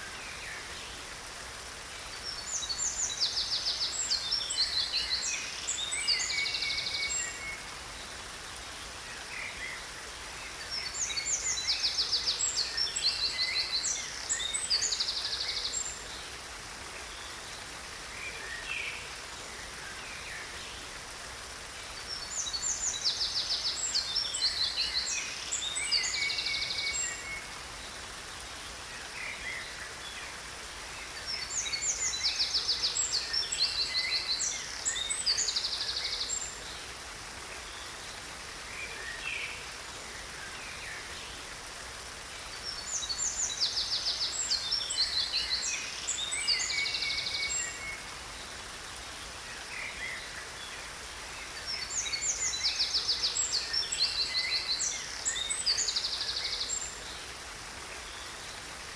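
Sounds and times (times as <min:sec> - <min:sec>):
waterfall hiss: 0:00.0 - 0:58.9.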